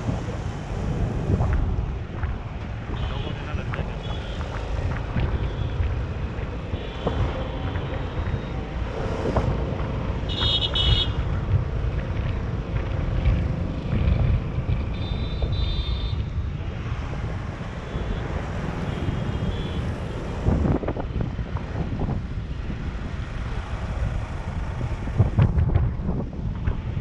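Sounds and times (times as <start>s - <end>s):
road noise: 0.0s - 27.0s
wind buffeting microphone: 0.0s - 27.0s.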